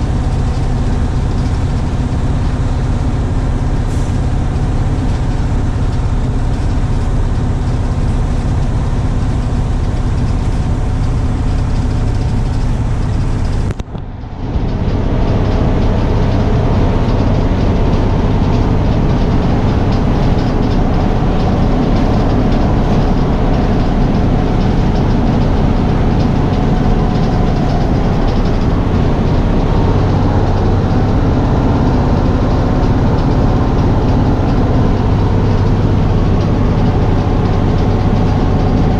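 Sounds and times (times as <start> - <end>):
bus engine drone: 0.0 - 38.9
road and body noise: 0.0 - 38.9.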